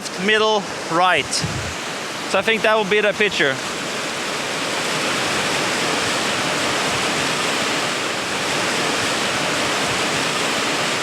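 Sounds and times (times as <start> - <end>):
waterfall and river rushing: 0.0 - 11.0.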